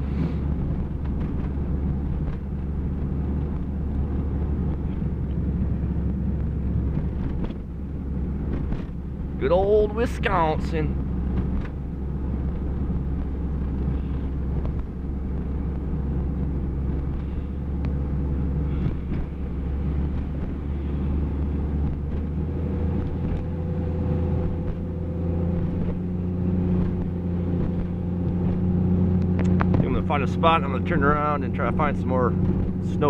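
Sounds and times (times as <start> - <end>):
car engine drone in cabin: 0.0 - 33.0
tyres on snowy road: 0.0 - 33.0.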